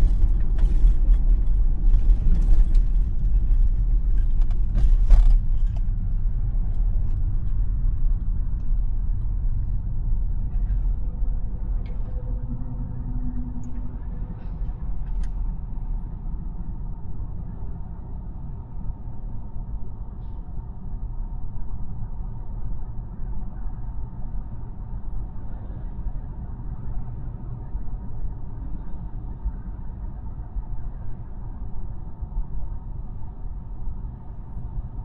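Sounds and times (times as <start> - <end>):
road and tyre rumble in car cabin: 0.0 - 35.0.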